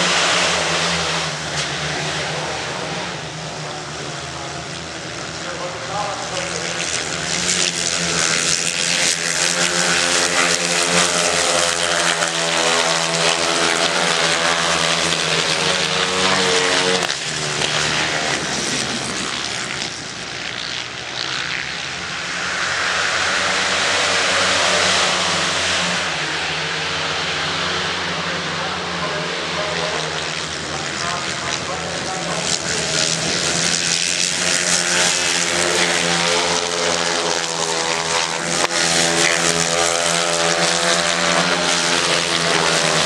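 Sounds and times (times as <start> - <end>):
motorcycles racing past: 0.0 - 43.0.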